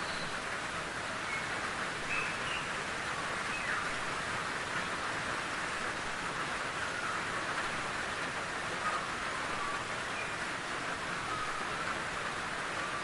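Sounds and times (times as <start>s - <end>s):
rain falling in forest: 0.0s - 13.0s.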